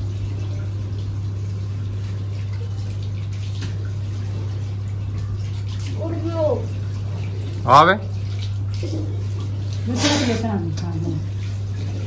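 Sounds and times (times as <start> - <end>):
water running into washbasin: 0.0 - 12.0.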